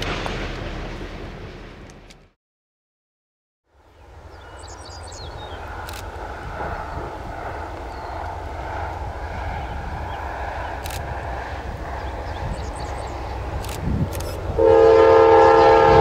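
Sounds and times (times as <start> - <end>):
diesel locomotives rumbling: 0.0 - 2.3, 3.7 - 16.0.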